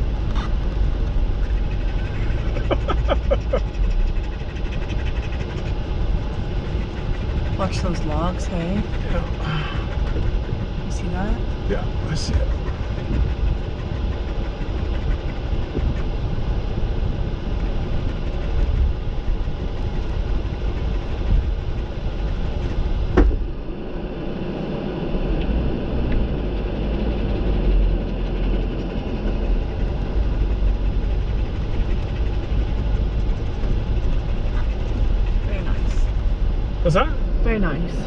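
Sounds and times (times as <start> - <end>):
vehicle engine rumbling: 0.0 - 38.0.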